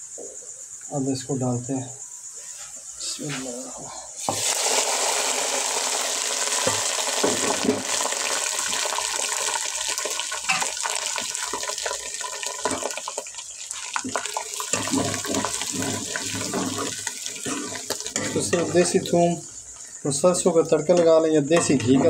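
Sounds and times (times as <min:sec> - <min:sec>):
hot oil sizzling in a pot: 0:04.1 - 0:22.0.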